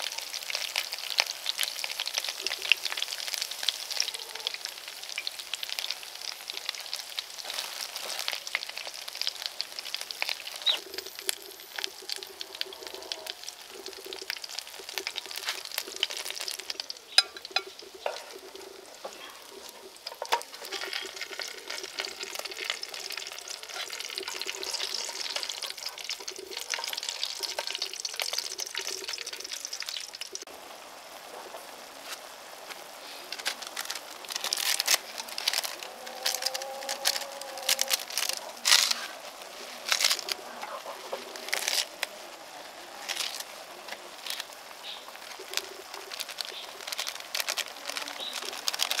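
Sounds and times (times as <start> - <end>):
meat sizzling in oil: 0.0 - 49.0
noodles cooking in water: 0.0 - 49.0.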